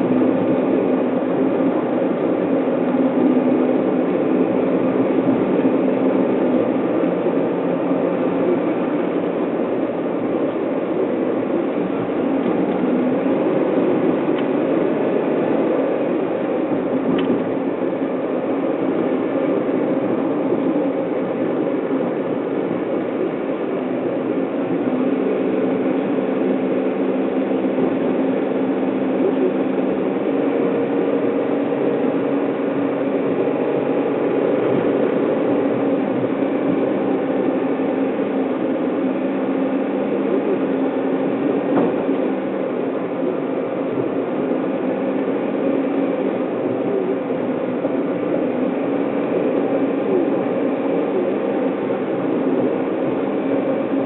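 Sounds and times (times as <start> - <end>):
car cabin engine and tyre drone: 0.0 - 54.0.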